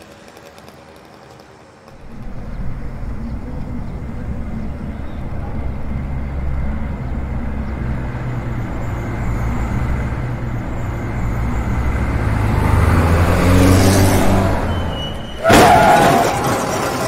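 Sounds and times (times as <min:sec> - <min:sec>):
car engine droning: 0:01.6 - 0:17.0.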